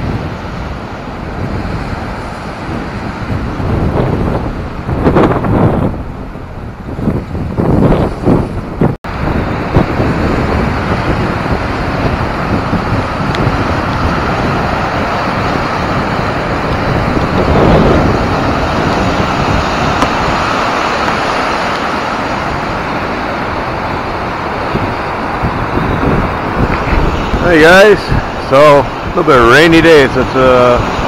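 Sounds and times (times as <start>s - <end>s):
waves washing over shore ice: 0.0s - 31.0s
wind buffeting microphone: 0.0s - 31.0s.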